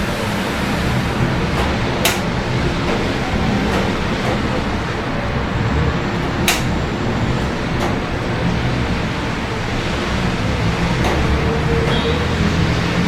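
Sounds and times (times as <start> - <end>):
low hum of city traffic: 0.0 - 13.0.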